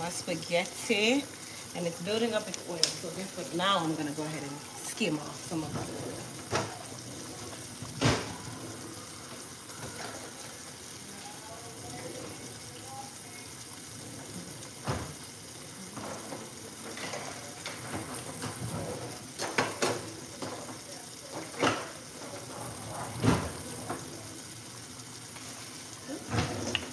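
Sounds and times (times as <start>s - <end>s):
kitchen tap running: 0.0s - 26.9s.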